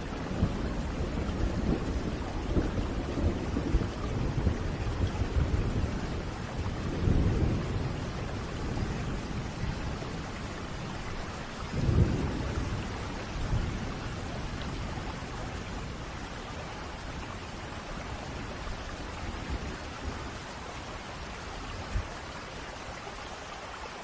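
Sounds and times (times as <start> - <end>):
thunder rumbling: 0.0 - 20.5
steady rain falling: 0.0 - 24.0.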